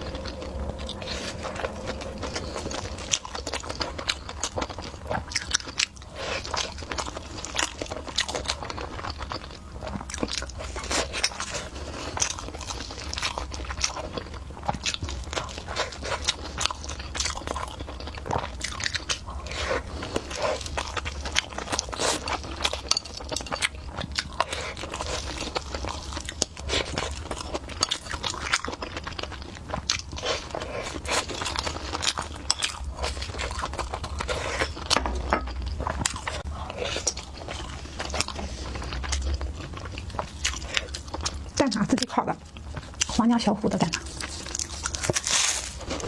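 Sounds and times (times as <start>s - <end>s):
person chewing food: 0.0s - 43.2s, 43.8s - 46.0s.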